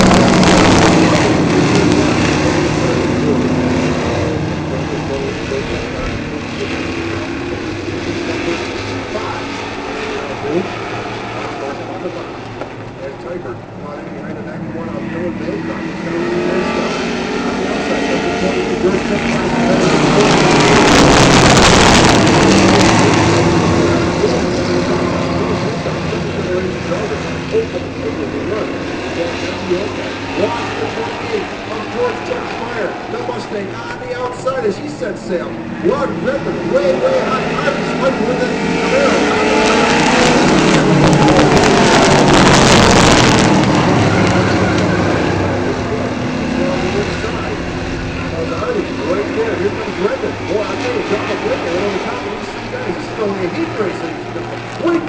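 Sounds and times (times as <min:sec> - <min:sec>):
race truck engines passing: 0:00.0 - 0:55.0.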